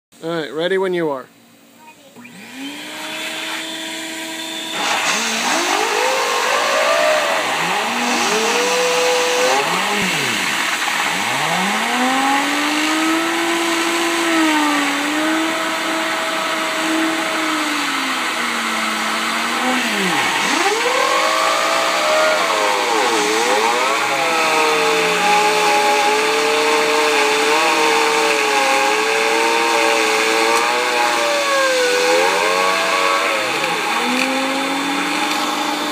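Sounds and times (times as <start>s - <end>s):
whirring hum and hiss: 0.2s - 35.9s.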